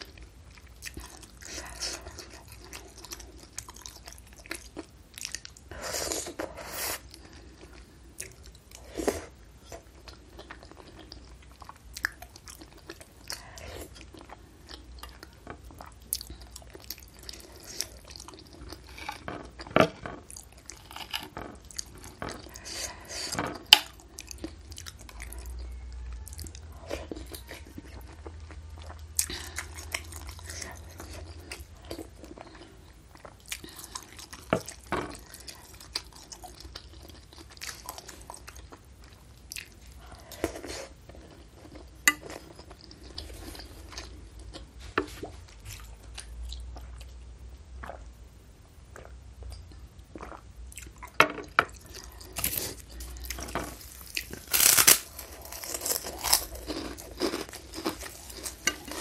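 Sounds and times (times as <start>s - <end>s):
person chewing: 0.0s - 48.1s, 48.8s - 59.0s.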